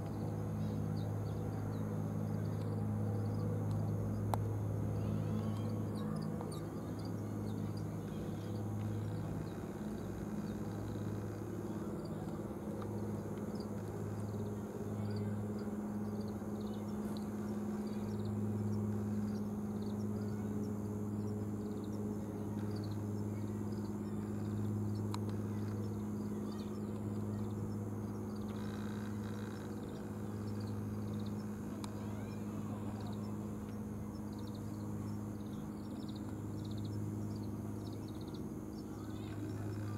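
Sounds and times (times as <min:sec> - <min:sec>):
faint high ticks: 0:00.0 - 0:39.9
low mechanical hum: 0:00.0 - 0:39.9.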